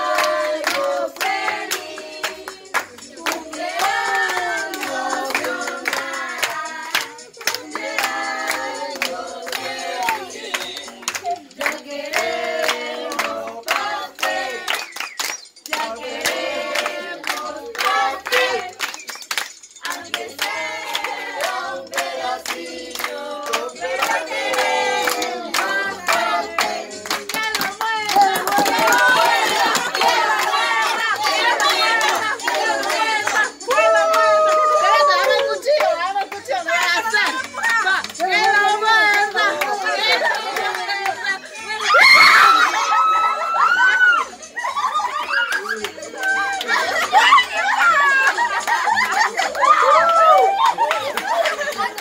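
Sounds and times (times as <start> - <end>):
hands clapping: 0.0 - 41.4, 45.3 - 52.0
people singing a celebration song: 0.0 - 52.0.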